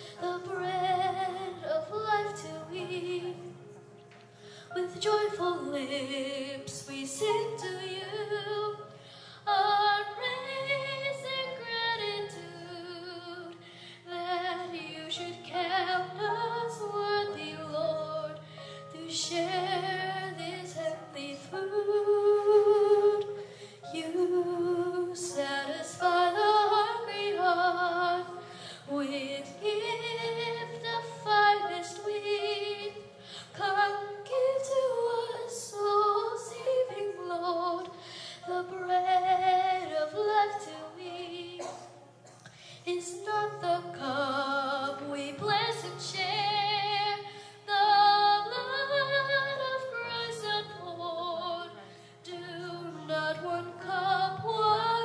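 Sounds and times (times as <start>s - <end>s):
girl singing a hymn: 0.0s - 3.7s, 4.5s - 55.0s.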